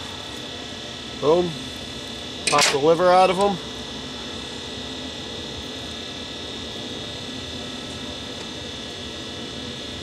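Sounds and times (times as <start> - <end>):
background hum: 0.0 - 10.0
constant high buzz: 0.0 - 10.0.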